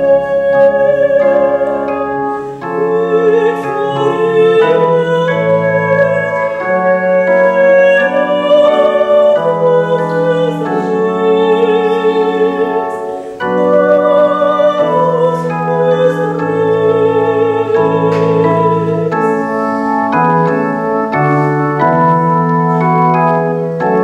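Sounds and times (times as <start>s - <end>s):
electronic keyboard chords: 0.0s - 24.0s
soprano singing classical style: 0.0s - 24.0s.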